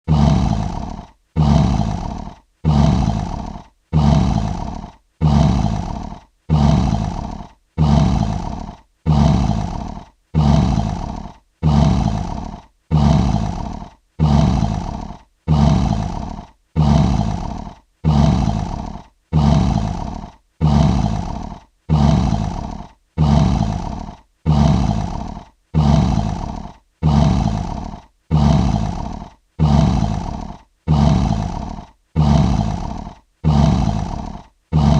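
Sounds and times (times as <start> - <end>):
lion roaring: 0.1 - 34.9.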